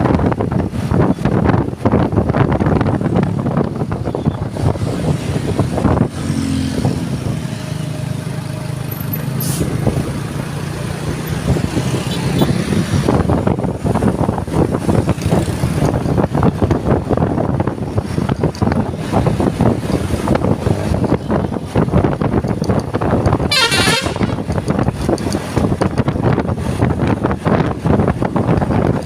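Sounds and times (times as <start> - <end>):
bus engine humming: 0.0 - 29.0
wind buffeting microphone: 0.0 - 29.0.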